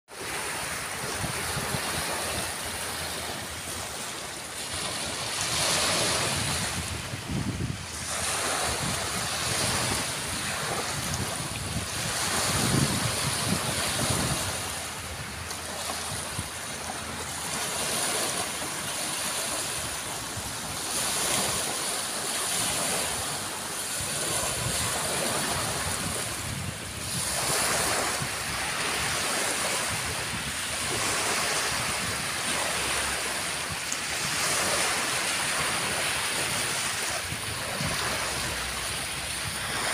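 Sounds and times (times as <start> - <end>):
small waves breaking on beach: 0.1 - 39.9.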